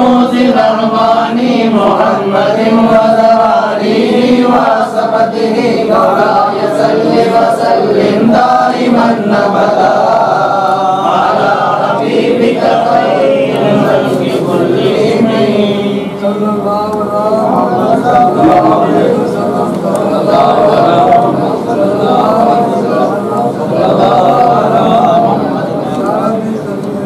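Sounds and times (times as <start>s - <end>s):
men chanting together: 0.0s - 26.8s.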